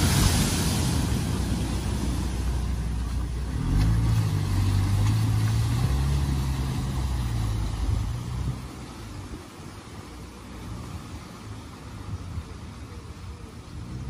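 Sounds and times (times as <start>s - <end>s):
car engine at steady revs: 0.0s - 14.0s
water rushing and splashing: 0.0s - 14.0s.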